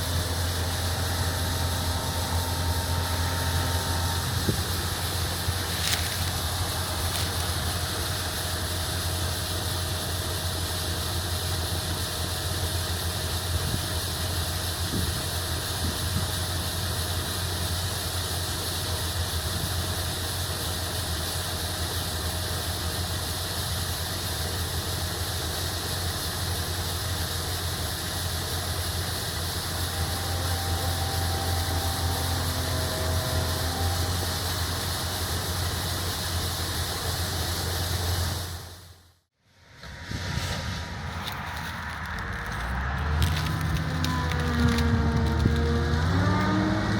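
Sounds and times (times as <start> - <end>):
farm machinery engine running: 0.0 - 39.0, 39.8 - 46.9.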